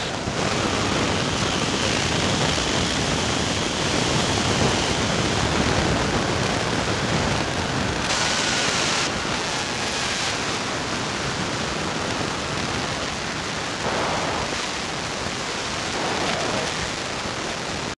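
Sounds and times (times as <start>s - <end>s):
steady hiss of noise: 0.0s - 18.0s.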